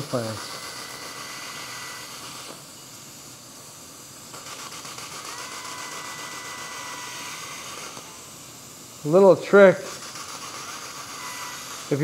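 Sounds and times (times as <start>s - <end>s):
dental drill whining: 0.0s - 3.0s, 4.3s - 12.0s
suction hiss: 0.0s - 12.0s.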